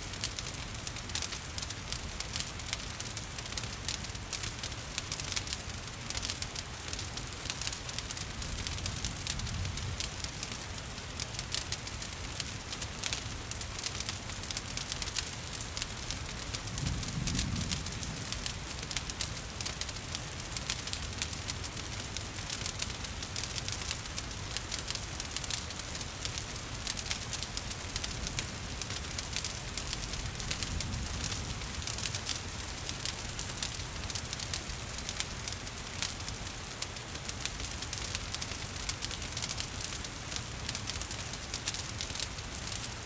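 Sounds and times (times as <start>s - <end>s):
wood fire crackling: 0.0s - 43.0s
rain falling: 0.1s - 43.0s.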